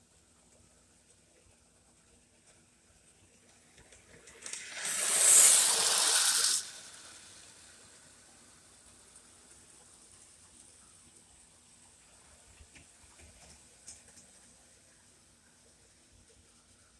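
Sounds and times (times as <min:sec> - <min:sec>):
model train wheels rumbling on rails: 0:00.0 - 0:16.9.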